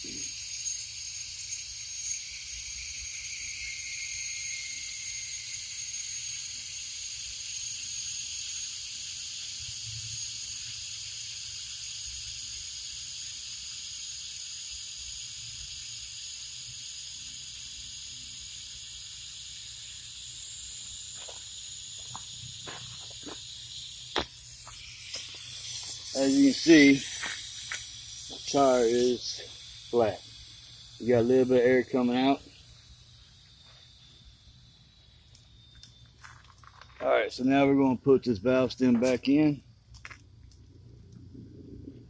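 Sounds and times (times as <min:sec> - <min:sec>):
air hissing from tire valve: 0:00.0 - 0:37.0.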